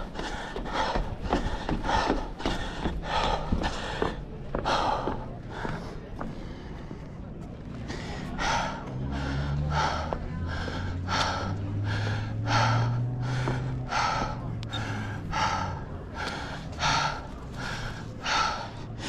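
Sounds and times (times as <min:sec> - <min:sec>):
heavy rhythmic breathing: 0:00.0 - 0:19.0.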